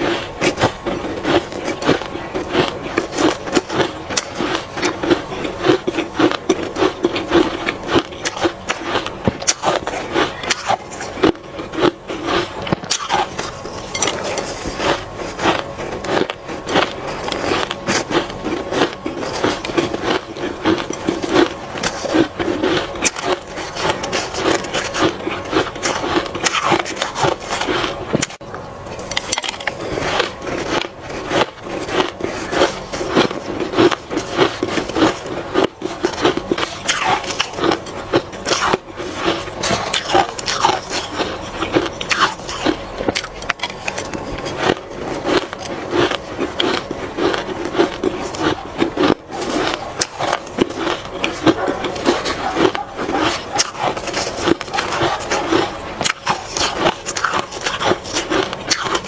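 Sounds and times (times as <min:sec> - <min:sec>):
ice crunching as chewed: 0:00.0 - 0:59.0.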